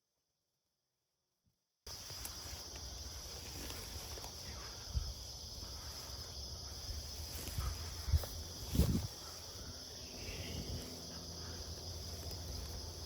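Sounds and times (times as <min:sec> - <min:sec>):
insects trilling: 0:01.9 - 0:13.0.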